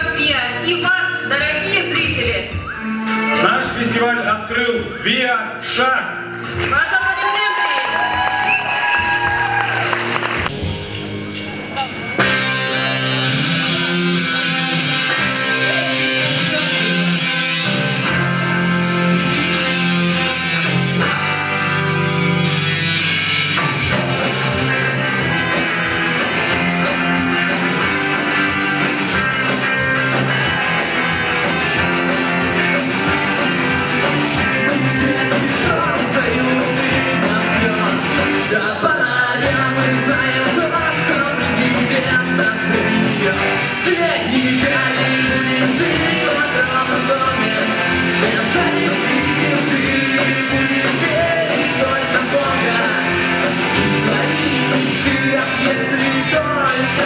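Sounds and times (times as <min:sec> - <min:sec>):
drums with steady beat: 0:00.0 - 0:05.8, 0:06.4 - 0:57.0
rock band playing: 0:00.0 - 0:57.0
guitar chords: 0:10.0 - 0:57.0.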